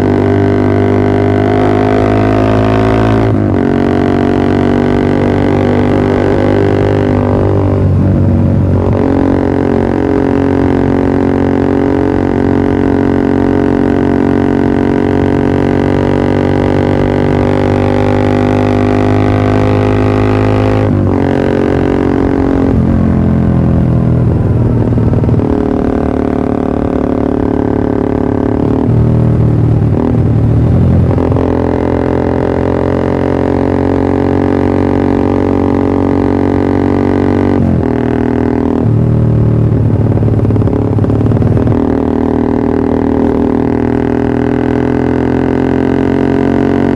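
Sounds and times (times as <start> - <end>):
motorcycle exhaust drone: 0.0 - 46.9.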